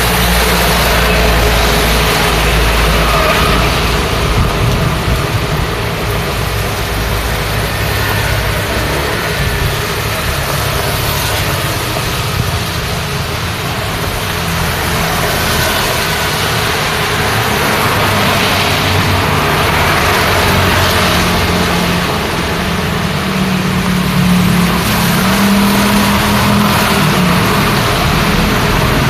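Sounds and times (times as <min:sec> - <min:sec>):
car engines running: 0:00.0 - 0:29.0
rain hiss: 0:00.0 - 0:29.0
wet tyres on road: 0:00.0 - 0:29.0.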